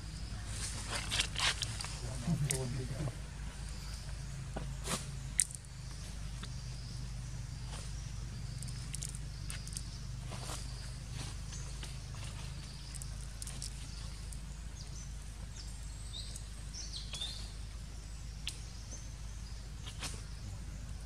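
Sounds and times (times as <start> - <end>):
bird chirps: 0.0 - 21.0
steady low rumble: 0.0 - 21.0.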